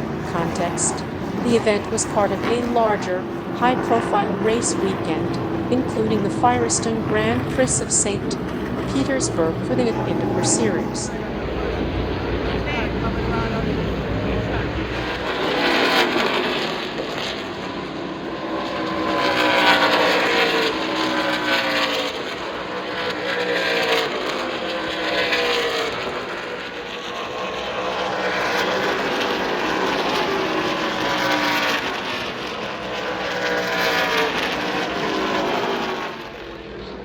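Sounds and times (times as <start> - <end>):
race trucks passing at speed: 0.0 - 37.0.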